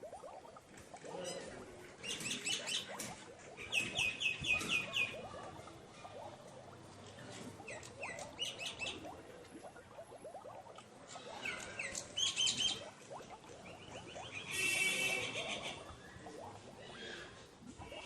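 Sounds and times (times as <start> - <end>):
small birds chirping: 0.2 - 18.0.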